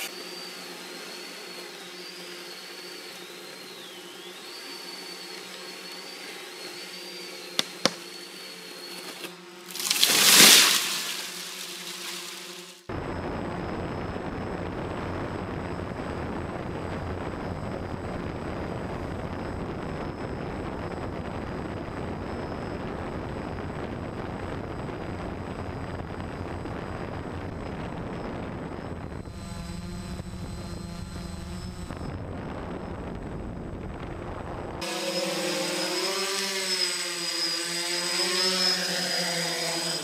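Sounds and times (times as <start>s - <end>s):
drone rotors and wind noise: 0.0s - 9.7s, 11.4s - 40.0s.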